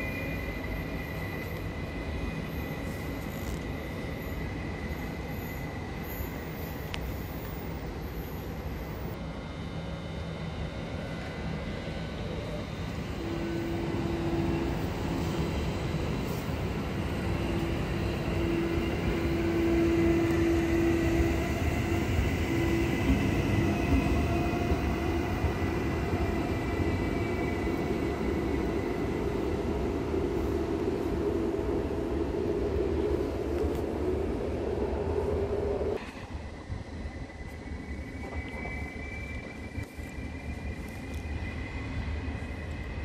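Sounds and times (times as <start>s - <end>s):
faint high whine: 0.0s - 43.0s
train rumbling on track: 0.0s - 43.0s.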